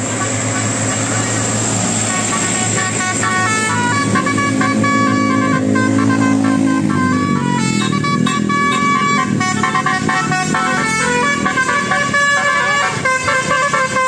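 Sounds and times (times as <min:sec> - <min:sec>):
bus engine running: 0:00.0 - 0:14.0
bus horn playing a melody: 0:00.0 - 0:14.0.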